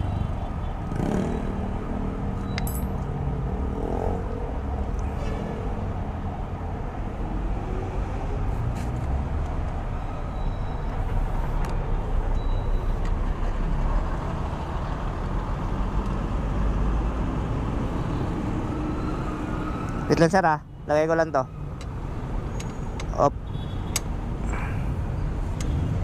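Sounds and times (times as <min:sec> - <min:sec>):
low rumble of street traffic: 0:00.0 - 0:26.0.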